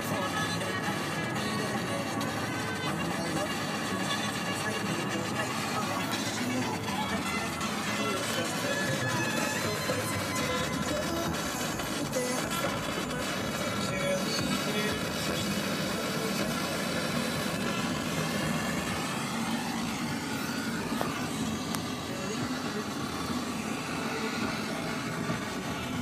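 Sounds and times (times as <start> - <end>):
car road and engine noise: 0.0 - 26.0
music from car stereo: 0.0 - 26.0.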